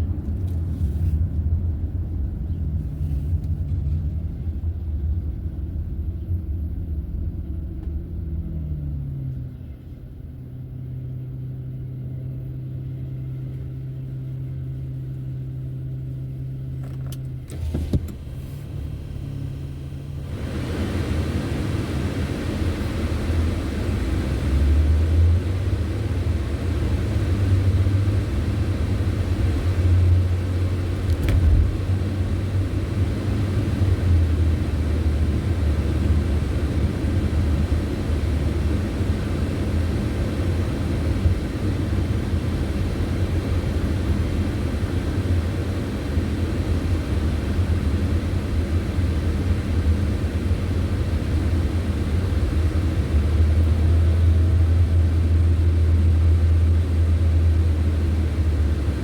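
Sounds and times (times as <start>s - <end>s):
car engine: 0.0s - 59.0s
road and tyre noise: 0.0s - 59.0s.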